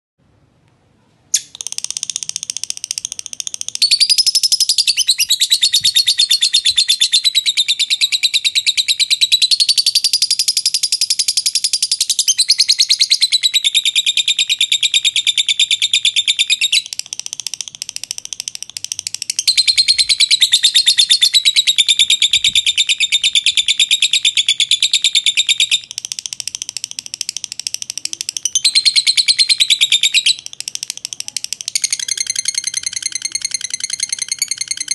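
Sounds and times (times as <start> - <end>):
lovebird chattering: 1.4 - 34.9.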